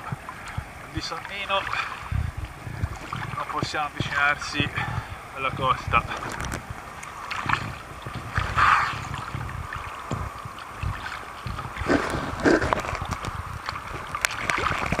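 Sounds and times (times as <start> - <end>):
sea water sloshing and gurgling: 0.0 - 15.0
water splashes: 0.0 - 15.0.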